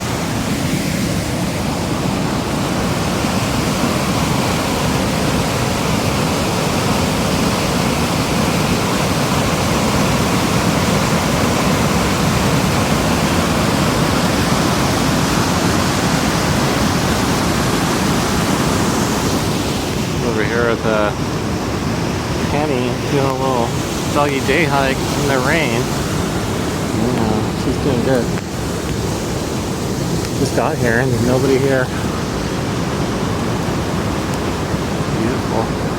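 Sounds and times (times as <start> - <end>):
water rushing: 0.0 - 35.9.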